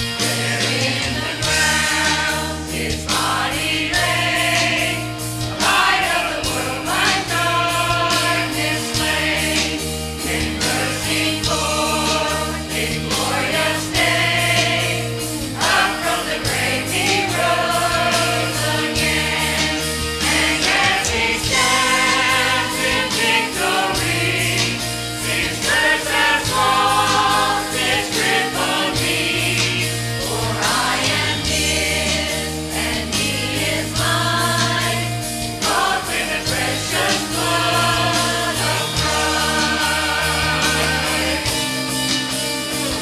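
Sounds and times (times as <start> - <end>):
mixed choir singing: 0.0 - 43.0.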